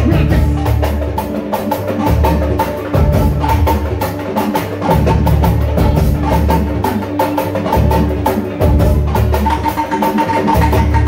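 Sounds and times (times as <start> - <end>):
electric guitar: 0.0 - 11.0
heavy bass: 0.0 - 11.0
percussion strikes: 0.0 - 11.0.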